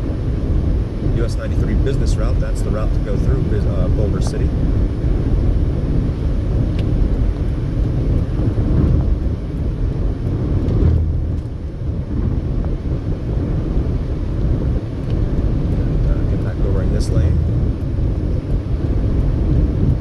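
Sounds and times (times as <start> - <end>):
tyre and road noise rumble: 0.0 - 20.0.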